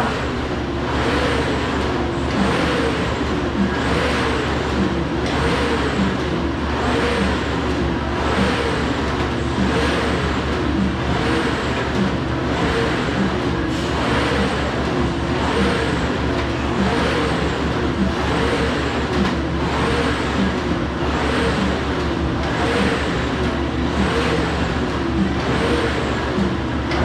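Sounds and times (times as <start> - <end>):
rowing machine fan whirring: 0.0 - 27.0.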